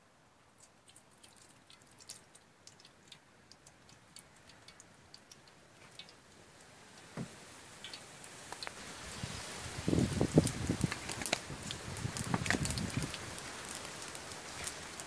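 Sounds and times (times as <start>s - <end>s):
wood fire crackling: 0.4s - 15.0s.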